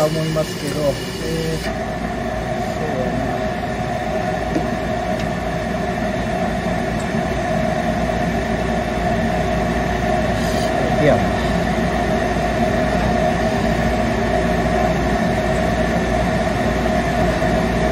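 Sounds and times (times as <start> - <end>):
motor humming: 0.0 - 17.9.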